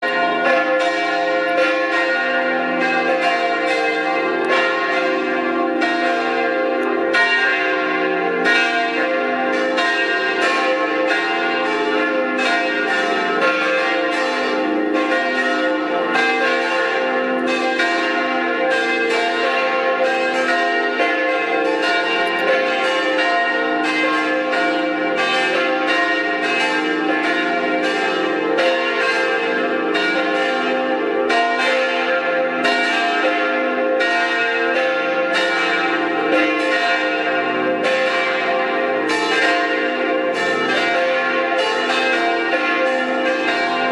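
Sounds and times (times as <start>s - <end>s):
church bells pealing: 0.0s - 43.9s.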